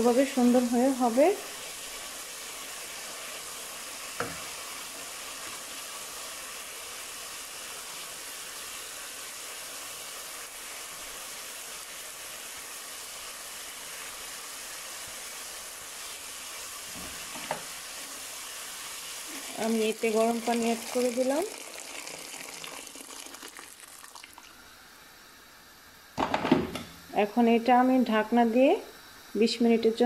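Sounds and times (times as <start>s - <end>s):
lentils sizzling in oil: 0.0s - 26.1s.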